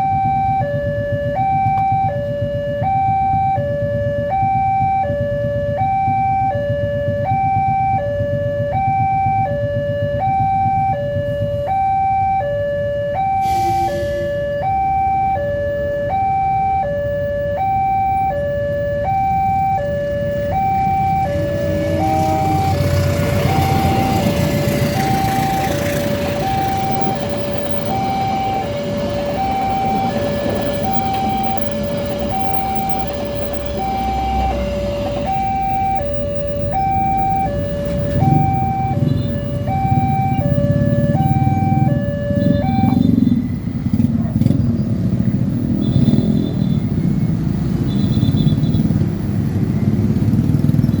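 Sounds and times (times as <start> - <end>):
level crossing two-tone alarm: 0.0 - 44.5, 45.1 - 49.0
road vehicle engines rumbling: 0.0 - 51.0.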